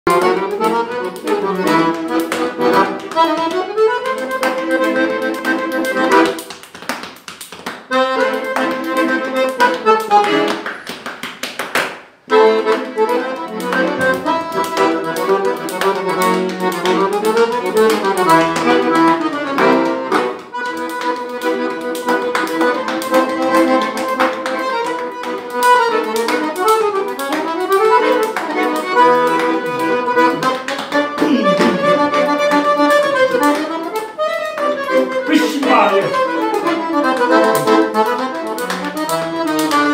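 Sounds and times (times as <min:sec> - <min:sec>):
piano accordion playing: 0:00.1 - 0:06.6, 0:07.8 - 0:10.9, 0:12.2 - 0:39.9
man slapping chest and belly: 0:00.1 - 0:39.9.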